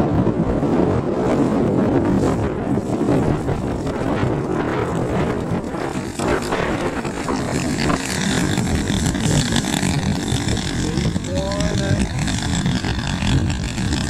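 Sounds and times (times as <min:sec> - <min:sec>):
model aircraft twin engines running: 0:00.0 - 0:14.0
strong wind buffeting microphone: 0:00.0 - 0:14.0.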